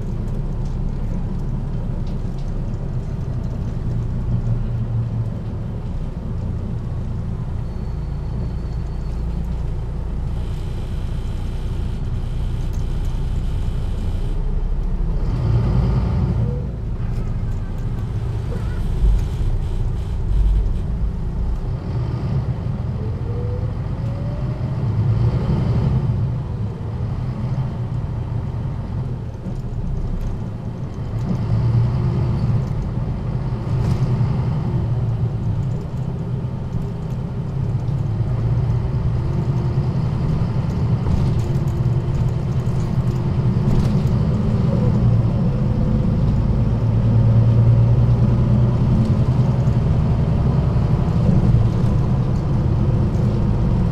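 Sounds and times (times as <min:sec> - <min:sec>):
bus diesel engine droning: 0:00.0 - 0:53.9.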